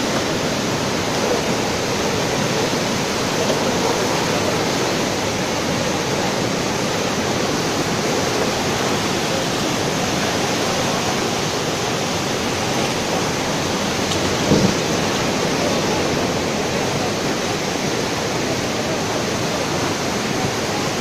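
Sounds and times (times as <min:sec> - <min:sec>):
river torrent rushing: 0:00.0 - 0:21.0.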